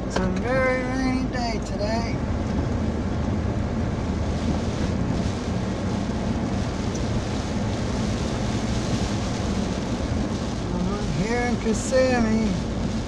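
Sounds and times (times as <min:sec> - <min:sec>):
car interior low rumble: 0:00.0 - 0:13.0
rain hissing on car: 0:00.0 - 0:13.0.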